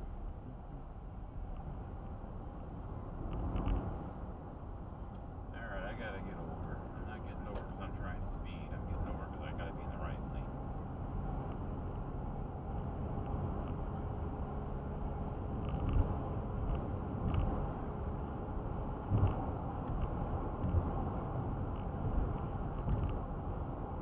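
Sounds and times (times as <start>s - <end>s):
road and tyre noise inside car: 0.0s - 24.0s.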